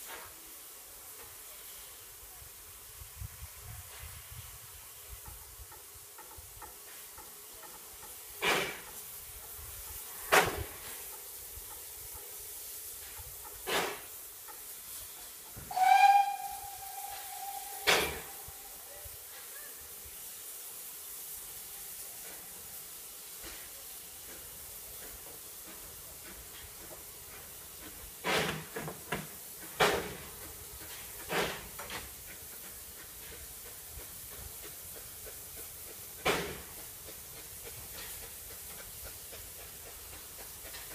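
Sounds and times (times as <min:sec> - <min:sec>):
sharp steam bursts: 0:00.0 - 0:40.9
steam locomotive hissing: 0:00.0 - 0:40.9.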